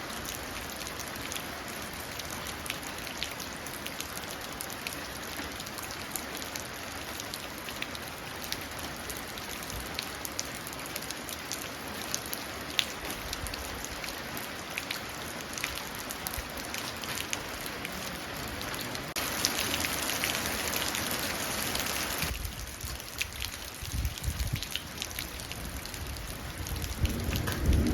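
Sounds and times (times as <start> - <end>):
rain falling into puddle: 0.0 - 27.9.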